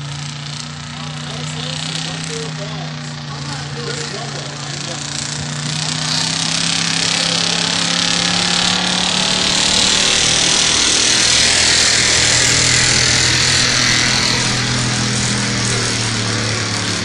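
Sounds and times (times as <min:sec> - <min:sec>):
truck engine running under load: 0:00.0 - 0:17.0.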